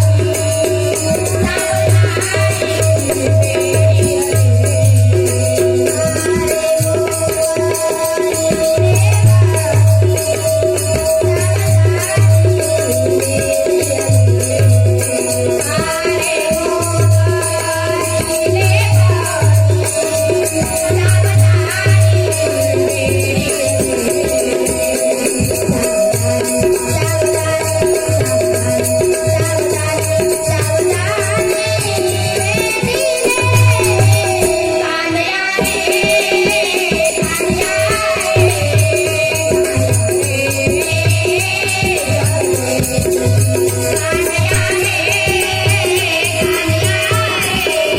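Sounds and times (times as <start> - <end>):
jingling hand percussion: 0.0 - 47.9.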